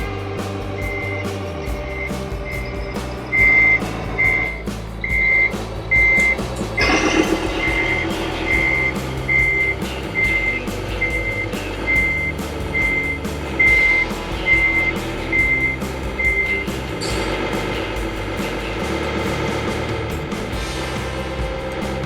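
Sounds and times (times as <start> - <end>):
loud low sound: 0.0 - 22.0.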